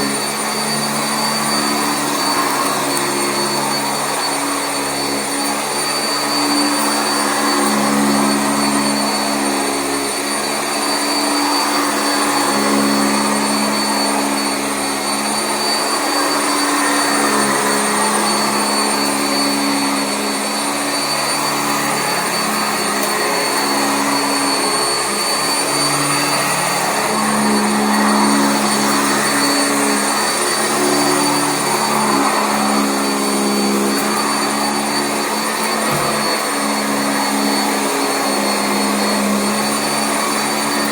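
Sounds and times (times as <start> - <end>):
upright vacuum running: 0.0 - 40.9.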